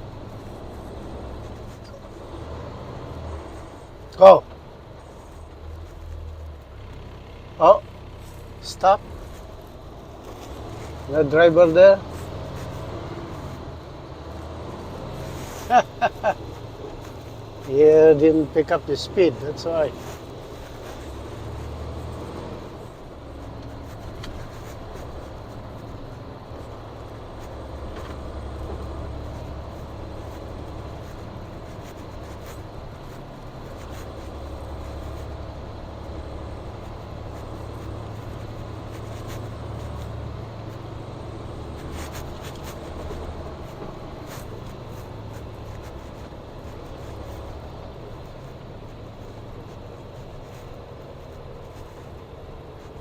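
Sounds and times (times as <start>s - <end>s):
vehicle engine and tyres rumbling: 0.0s - 53.0s.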